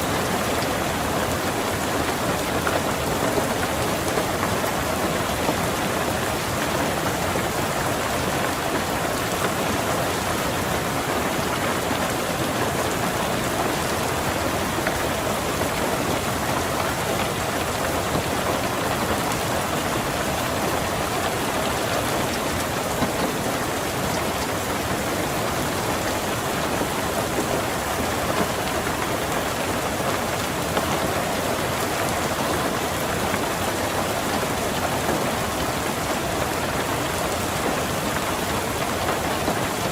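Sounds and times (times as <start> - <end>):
heavy rain drumming on car roof: 0.0 - 39.9.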